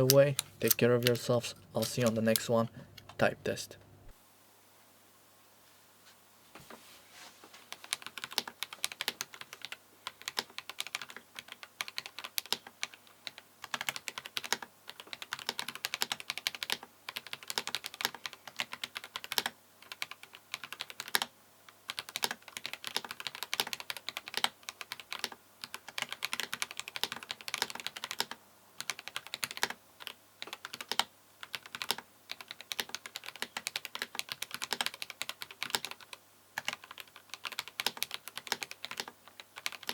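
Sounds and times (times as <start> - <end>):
fast typing on mechanical keyboard: 7.8 - 39.9.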